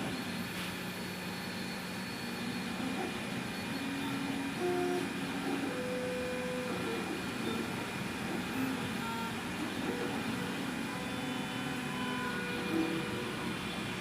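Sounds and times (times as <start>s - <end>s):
stepper motors whining: 1.7s - 14.0s.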